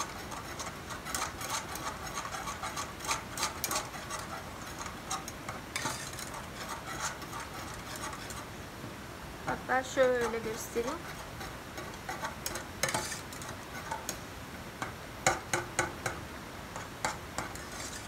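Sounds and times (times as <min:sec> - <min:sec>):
whisk scraping against a pot: 0:00.0 - 0:08.6, 0:09.8 - 0:14.2, 0:14.8 - 0:18.0.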